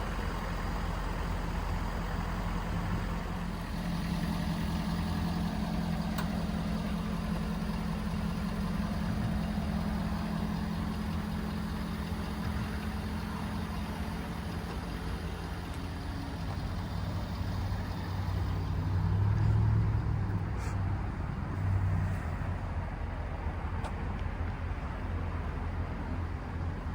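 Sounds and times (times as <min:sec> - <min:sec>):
diesel engine idling: 0:00.0 - 0:26.9.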